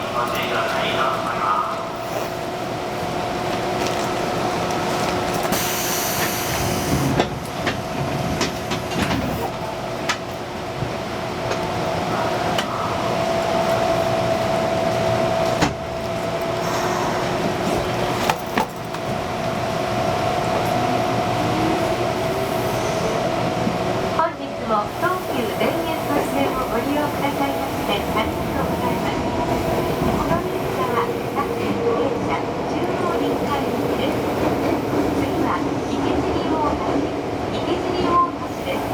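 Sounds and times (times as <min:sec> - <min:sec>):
subway car running noise: 0:00.0 - 0:38.9.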